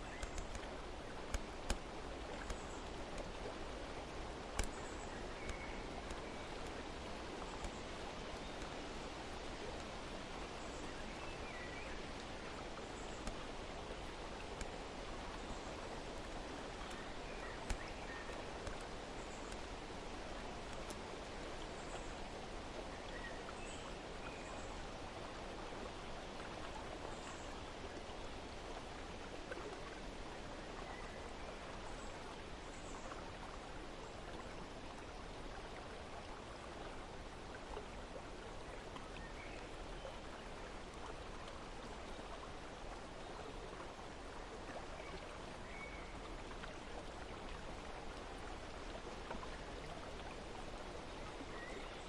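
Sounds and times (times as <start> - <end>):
flowing water rushing: 0.0 - 52.0.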